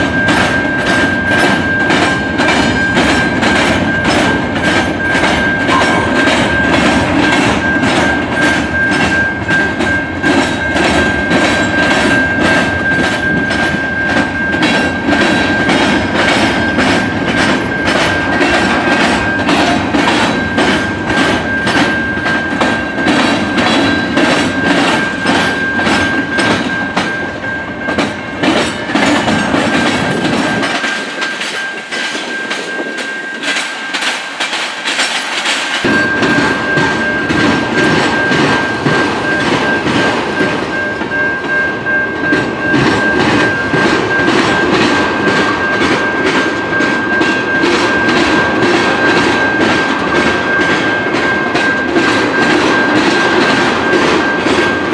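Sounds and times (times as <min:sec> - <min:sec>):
train rumble: 0:00.0 - 0:54.9
train wheels clicking over rail joints: 0:00.0 - 0:54.9.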